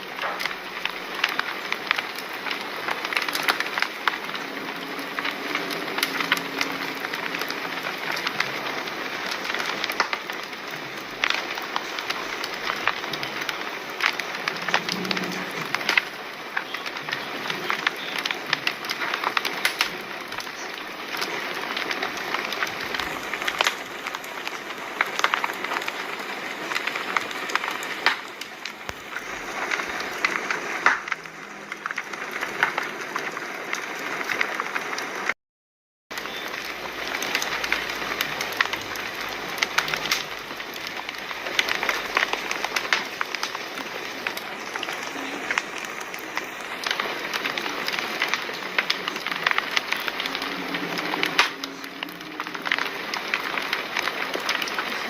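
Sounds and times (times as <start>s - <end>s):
fire crackling and popping: 0.0s - 35.4s, 36.1s - 55.0s.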